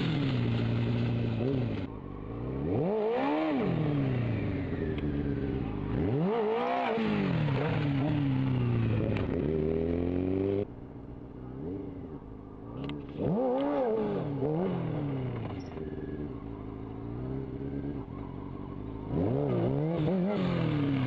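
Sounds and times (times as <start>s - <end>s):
motorcycle engine revving: 0.0s - 10.7s, 11.4s - 21.0s.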